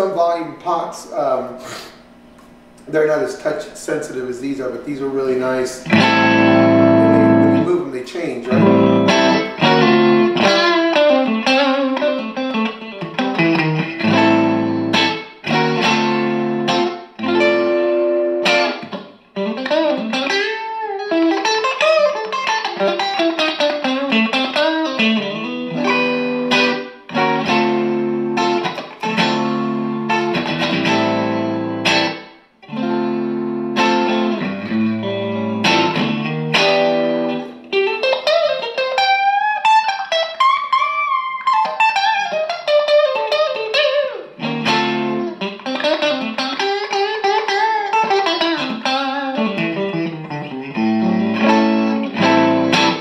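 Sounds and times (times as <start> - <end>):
electric guitar chords: 0.0 - 53.0
sliding guitar single notes: 5.6 - 53.0.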